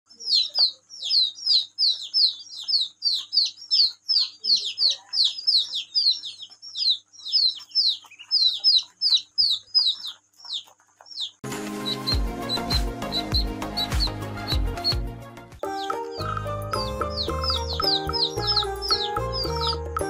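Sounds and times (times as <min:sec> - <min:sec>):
ducklings and chicks peeping: 0:00.1 - 0:20.0.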